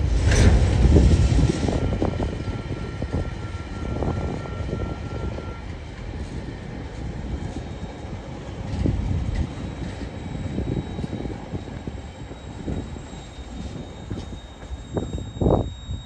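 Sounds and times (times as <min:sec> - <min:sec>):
train wheels rumbling and knocking: 0:00.0 - 0:16.0
thin steady squeal: 0:00.1 - 0:16.0.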